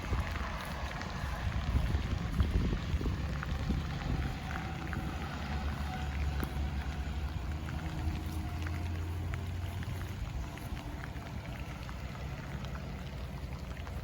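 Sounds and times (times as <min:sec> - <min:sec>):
drops ticking close by: 0:00.0 - 0:14.0
heavy rain falling: 0:00.0 - 0:14.0
steady low rumble: 0:00.0 - 0:14.0.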